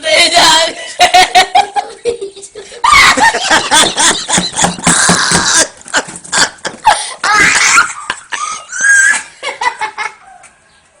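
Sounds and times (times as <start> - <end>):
people laughing: 0.1 - 10.3.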